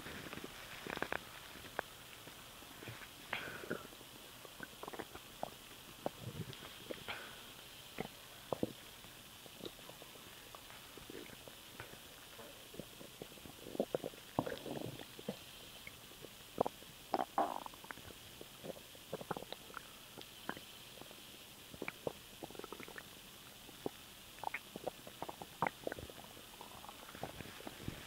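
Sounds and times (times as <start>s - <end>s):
stomach gurgling: 0.0s - 28.0s.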